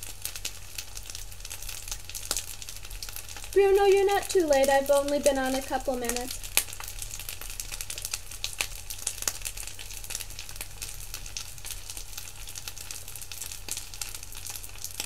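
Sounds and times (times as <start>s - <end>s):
food sizzling and crackling: 0.0s - 15.0s.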